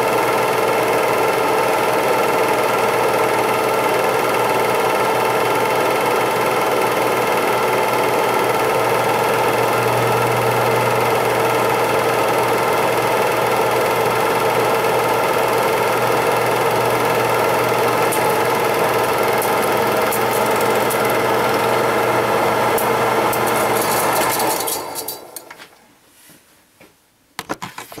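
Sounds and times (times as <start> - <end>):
film projector clattering: 0.0 - 25.6.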